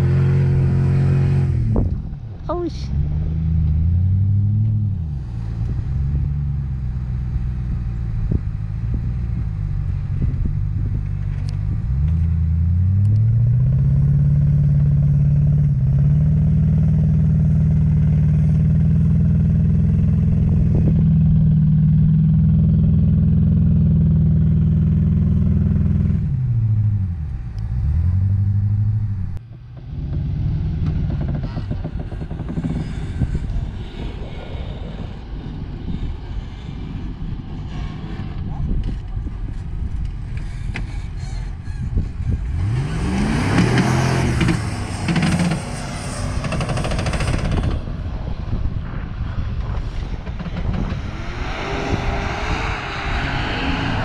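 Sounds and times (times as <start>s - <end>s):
off-road vehicle engine revving: 0.0s - 2.2s, 2.8s - 35.3s, 37.8s - 48.0s, 49.6s - 54.0s.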